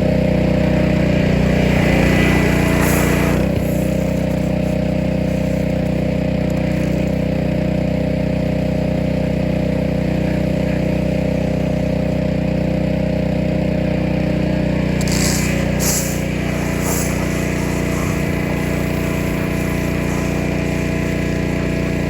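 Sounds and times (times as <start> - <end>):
motor running steadily: 0.0 - 22.0.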